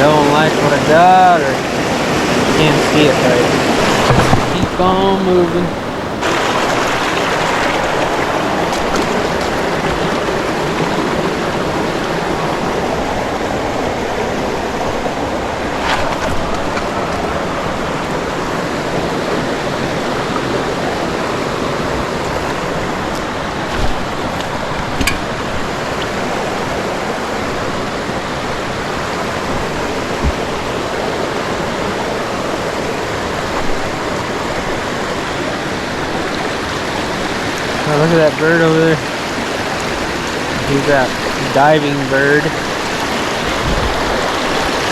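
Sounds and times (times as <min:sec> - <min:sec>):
creek water rushing over rocks: 0:00.0 - 0:44.9.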